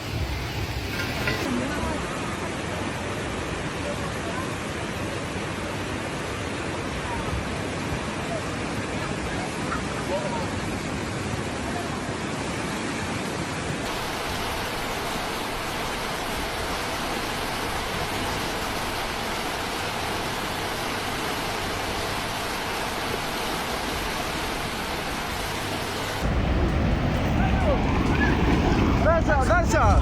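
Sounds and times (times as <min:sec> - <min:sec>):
water rushing: 0:00.0 - 0:30.0.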